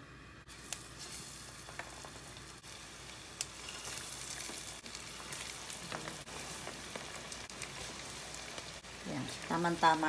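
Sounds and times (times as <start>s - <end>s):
deep-frying sizzle with pops: 0.4s - 10.0s.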